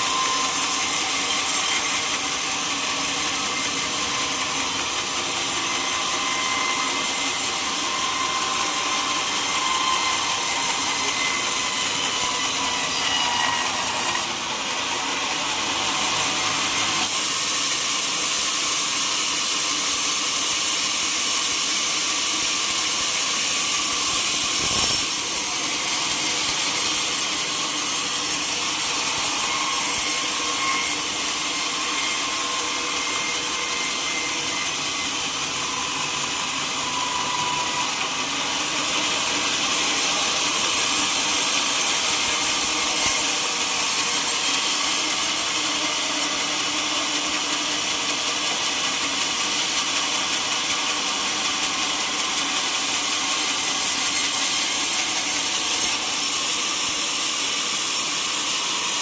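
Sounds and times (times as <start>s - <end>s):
saw cutting through log: 0.0s - 59.0s.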